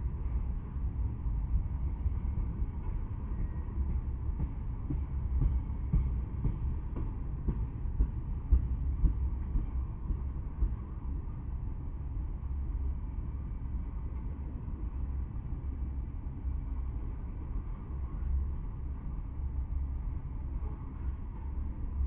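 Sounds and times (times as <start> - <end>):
steel wheels rumbling on rail: 0.0 - 22.0.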